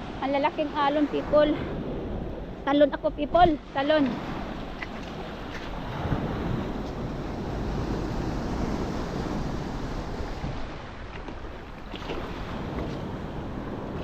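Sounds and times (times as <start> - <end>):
sea waves washing in: 0.0 - 14.0
wind buffeting microphone: 0.0 - 14.0.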